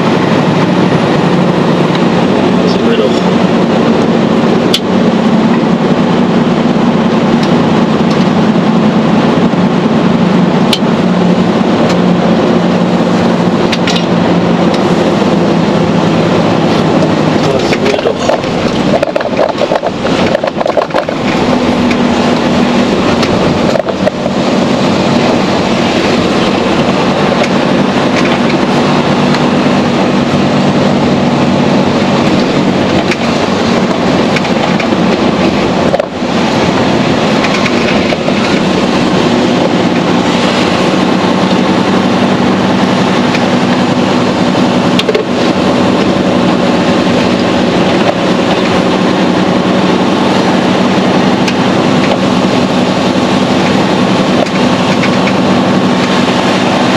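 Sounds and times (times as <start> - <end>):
diesel engine humming: 0.0 - 56.9
road and tyre noise: 0.0 - 56.9.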